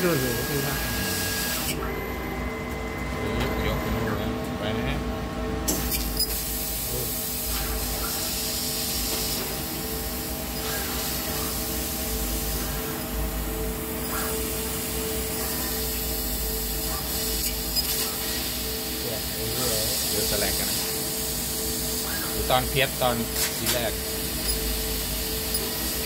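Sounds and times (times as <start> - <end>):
constant machine hum: 0.0 - 26.0.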